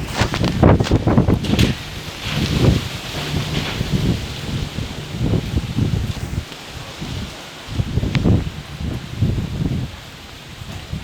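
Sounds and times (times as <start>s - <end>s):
strong wind gusting through leaves: 0.0s - 11.0s
wind buffeting microphone: 0.0s - 11.0s.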